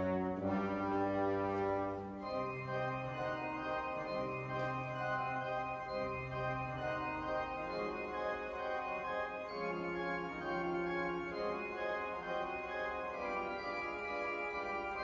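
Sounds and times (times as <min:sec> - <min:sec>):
organ playing chords: 0:00.0 - 0:15.0.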